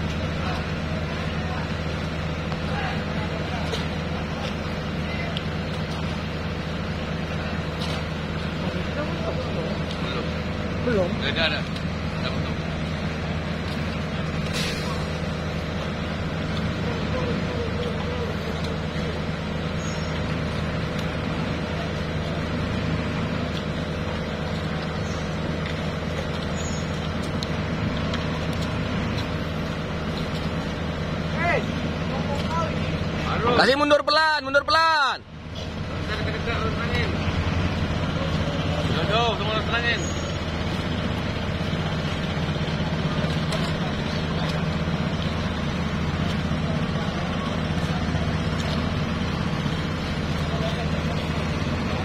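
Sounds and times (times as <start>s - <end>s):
diesel engines idling: 0.0s - 52.0s.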